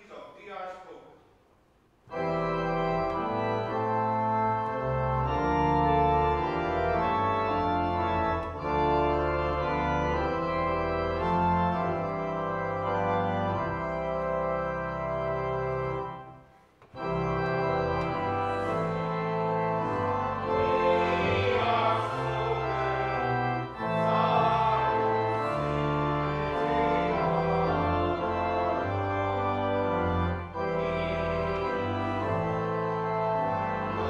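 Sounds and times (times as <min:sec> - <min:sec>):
organ playing chords: 0:02.0 - 0:34.0
organ pedal bass: 0:02.1 - 0:34.0.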